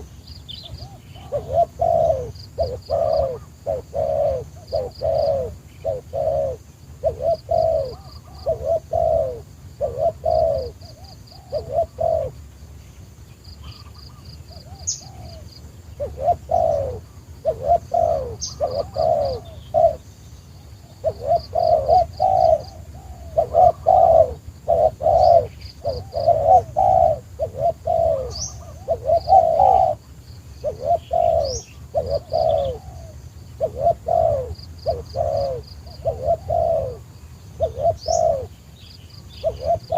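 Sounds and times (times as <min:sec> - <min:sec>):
dove cooing: 0:00.0 - 0:12.6, 0:13.6 - 0:39.9.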